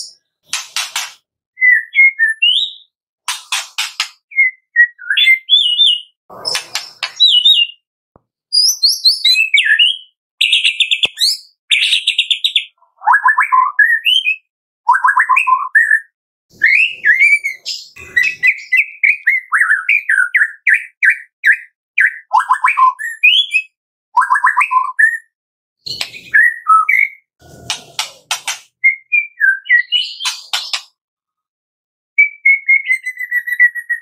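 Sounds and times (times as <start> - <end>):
bird singing whistles and trills: 1.6 - 3.0, 4.3 - 7.8, 8.5 - 27.3, 28.8 - 30.9, 32.2 - 34.0.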